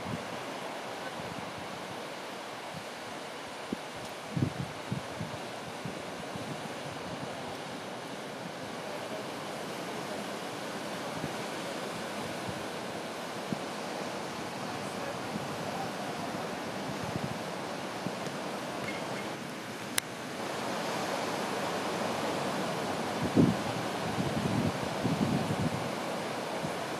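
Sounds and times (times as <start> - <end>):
small waves breaking: 0.0 - 26.9.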